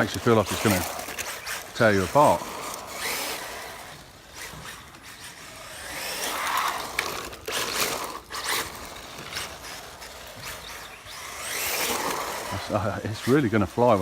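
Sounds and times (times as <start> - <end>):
radio-controlled car driving past: 0.0 - 14.0.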